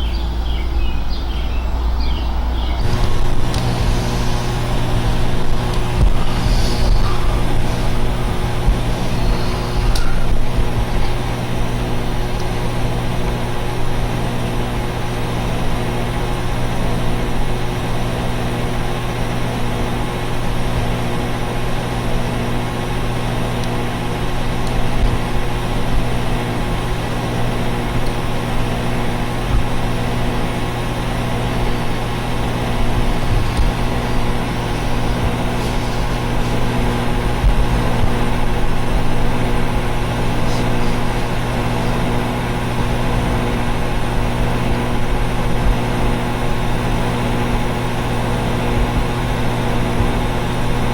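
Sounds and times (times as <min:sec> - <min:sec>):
air conditioner units humming: 0:00.0 - 0:50.9.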